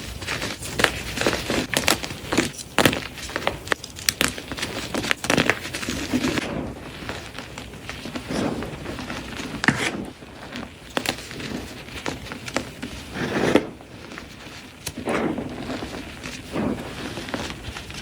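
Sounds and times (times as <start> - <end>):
chalk blocks crunching: 0.0 - 18.0.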